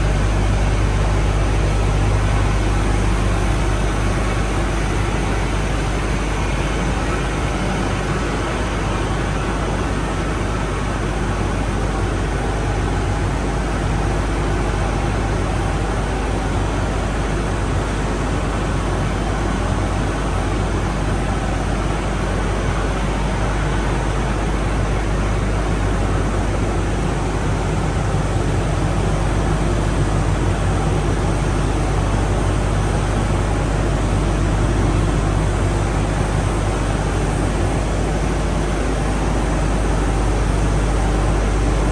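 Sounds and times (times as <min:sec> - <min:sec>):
low industrial hum: 0:00.0 - 0:41.9
rushing water in pipework: 0:00.0 - 0:41.9.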